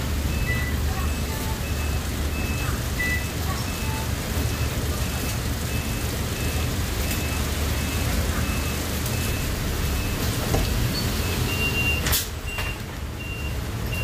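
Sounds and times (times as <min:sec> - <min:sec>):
bus engine humming: 0:00.0 - 0:14.0.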